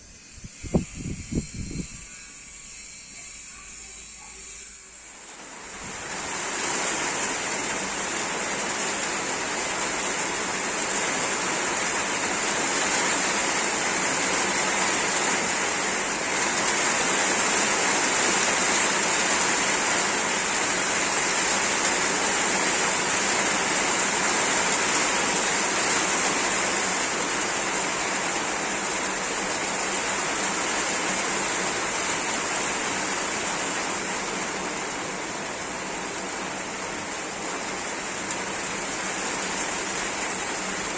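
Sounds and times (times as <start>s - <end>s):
heavy rain: 4.9s - 40.9s.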